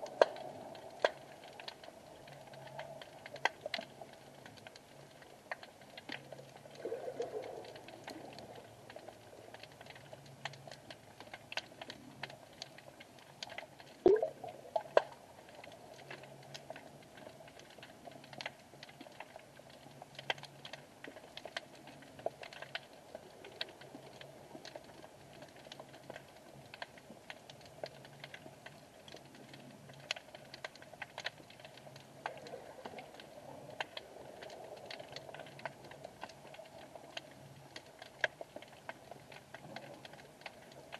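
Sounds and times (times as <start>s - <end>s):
underwater crackle of clicks: 0.0s - 40.9s.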